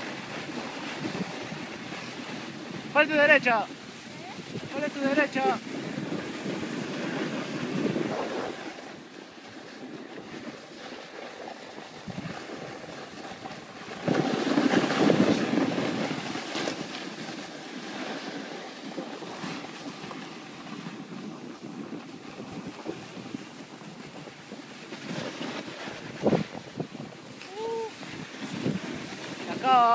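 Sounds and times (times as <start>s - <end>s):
skis hissing over snow: 0.0s - 29.9s
wind buffeting microphone: 0.0s - 29.9s.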